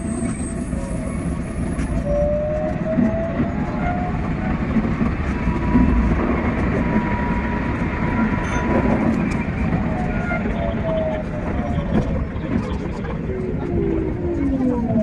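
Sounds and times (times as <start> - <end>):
rising whine: 0.0 - 15.0
train wheels rumbling on rail: 0.0 - 15.0.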